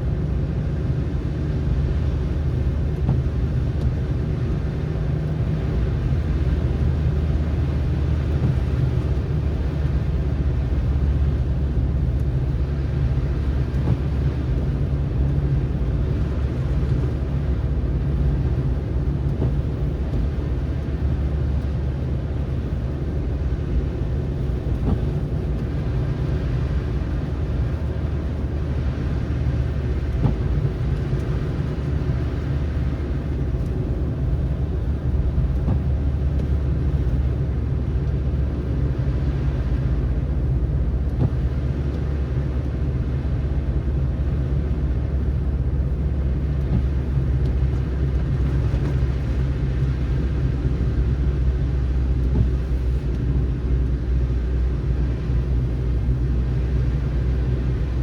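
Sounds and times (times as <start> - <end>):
car engine rumble: 0.0 - 58.0
tyre road noise: 0.0 - 58.0.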